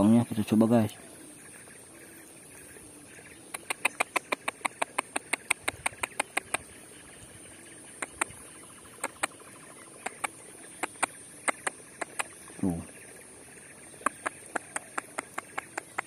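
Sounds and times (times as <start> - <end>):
high insect buzz: 0.0 - 16.0.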